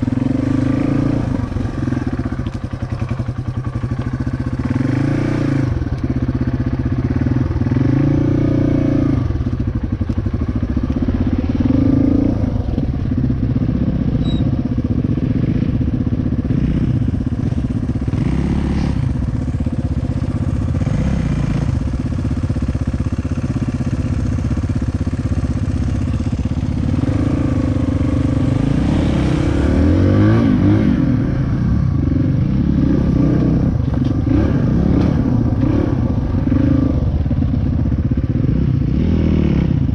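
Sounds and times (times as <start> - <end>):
dirt bike engine revving: 0.0 - 2.4, 4.5 - 5.9, 6.9 - 9.4, 11.0 - 14.4, 15.0 - 22.2, 23.3 - 39.9.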